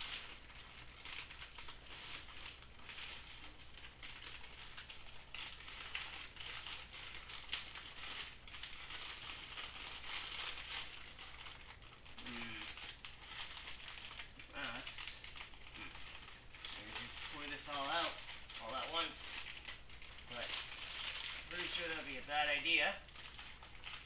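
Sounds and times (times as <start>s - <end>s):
plastic bricks clicking and rattling: 0.0s - 24.0s
rustling: 0.0s - 24.0s.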